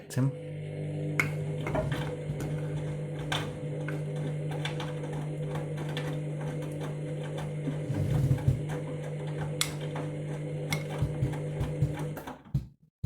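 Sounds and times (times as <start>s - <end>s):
washing machine motor humming: 0.0s - 12.6s.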